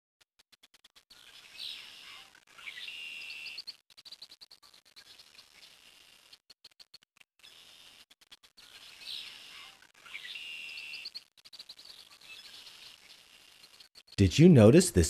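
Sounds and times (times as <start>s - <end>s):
small birds chirping: 0.8s - 14.3s.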